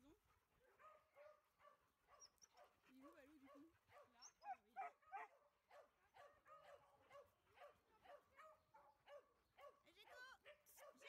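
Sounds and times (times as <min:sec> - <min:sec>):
dog yipping: 0:00.8 - 0:11.0.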